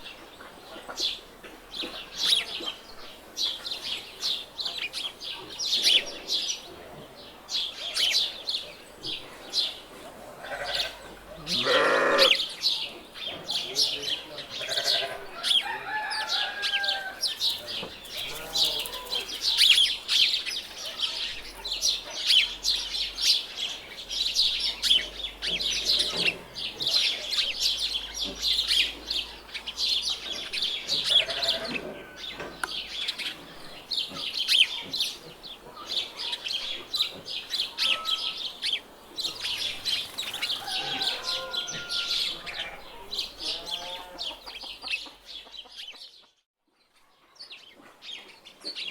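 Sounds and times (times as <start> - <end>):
chickens calling: 0.0 - 46.4
small birds chirping: 0.0 - 48.9.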